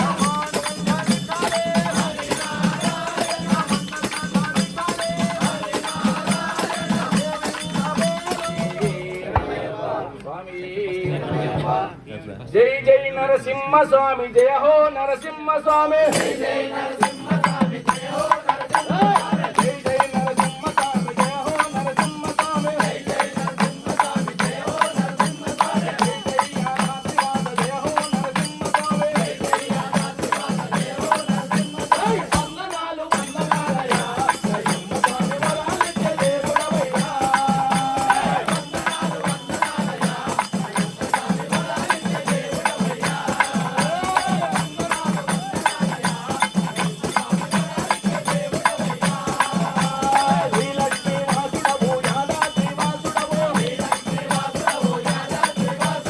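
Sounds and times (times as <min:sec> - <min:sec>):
fast percussion beat: 0:00.0 - 0:09.9, 0:15.7 - 0:56.0
person singing devotional song: 0:00.0 - 0:56.0.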